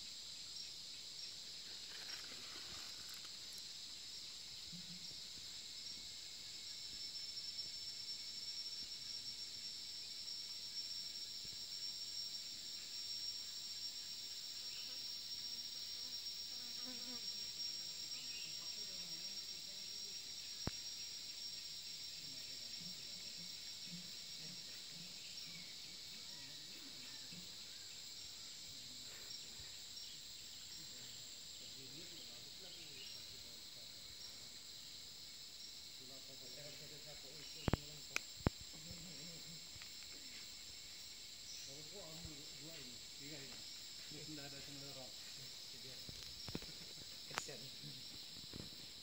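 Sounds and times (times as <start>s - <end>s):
insects chirring: 0.0s - 49.0s.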